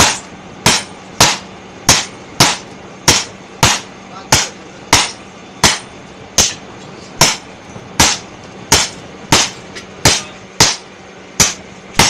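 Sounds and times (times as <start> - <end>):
hammer striking steel on anvil: 0.0 - 6.6, 7.2 - 12.0.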